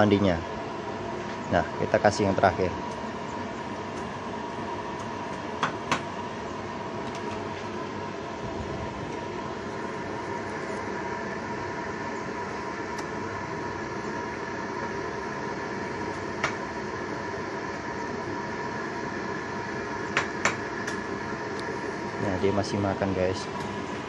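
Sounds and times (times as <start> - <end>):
faint hum tones: 0.0 - 24.0
mechanical droning: 0.0 - 24.0.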